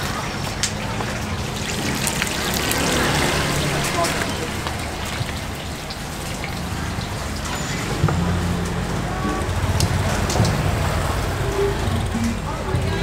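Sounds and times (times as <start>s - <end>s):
motor scooter engines running: 0.0s - 13.0s.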